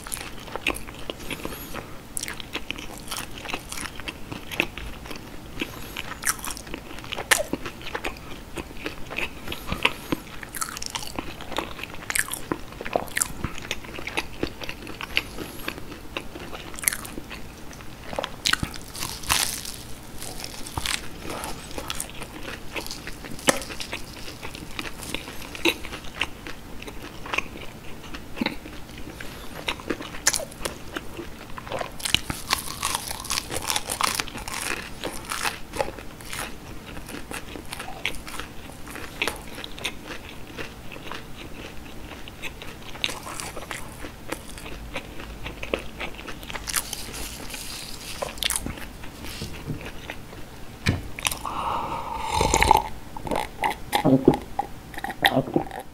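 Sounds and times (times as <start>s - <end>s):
crunchy biting and chewing: 0.0s - 50.5s, 51.1s - 55.9s.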